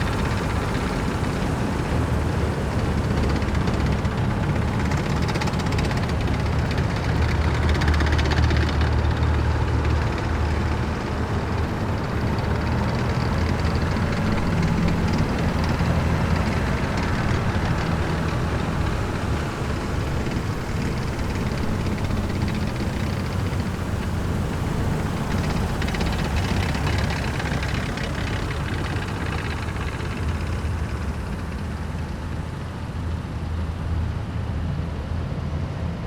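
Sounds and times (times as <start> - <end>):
military vehicles driving past: 0.0 - 36.0.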